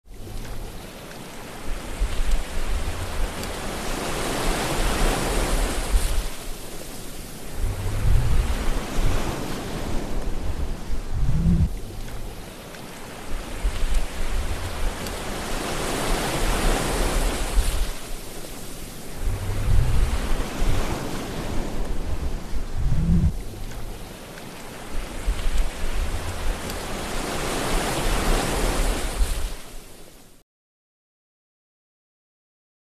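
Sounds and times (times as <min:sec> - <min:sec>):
waves breaking: 0:00.1 - 0:30.4
surf hissing: 0:00.5 - 0:30.2.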